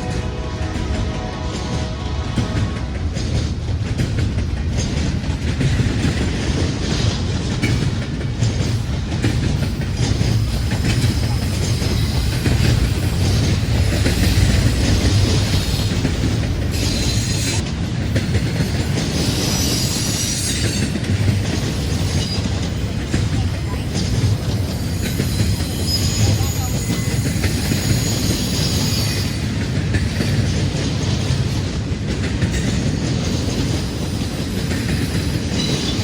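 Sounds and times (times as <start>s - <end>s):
freight train passing: 0.0s - 36.0s.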